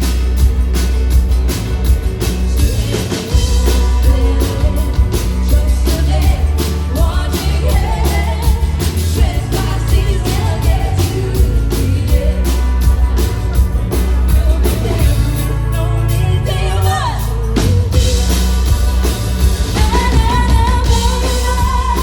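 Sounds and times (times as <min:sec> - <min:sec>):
drums and bass: 0:00.0 - 0:22.0
person singing: 0:02.6 - 0:22.0.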